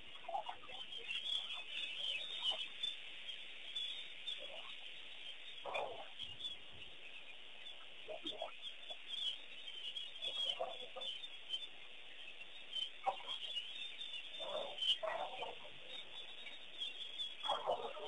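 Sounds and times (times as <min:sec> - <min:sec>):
birds chattering high calls: 0:00.0 - 0:18.0
louder lower bird calls: 0:00.0 - 0:18.0.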